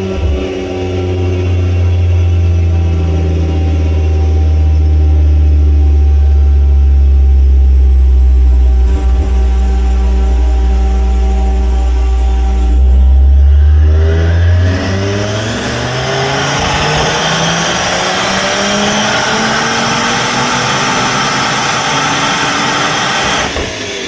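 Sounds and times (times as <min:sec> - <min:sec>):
car engine revving at full throttle: 0:00.0 - 0:24.0.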